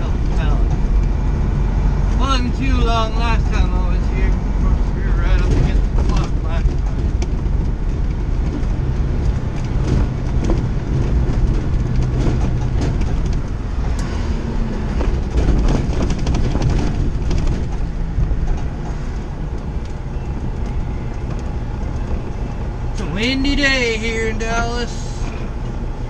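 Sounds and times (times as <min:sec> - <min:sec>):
rattles and clunks: 0:00.0 - 0:26.0
road noise: 0:00.0 - 0:26.0
truck engine drone: 0:00.0 - 0:26.0.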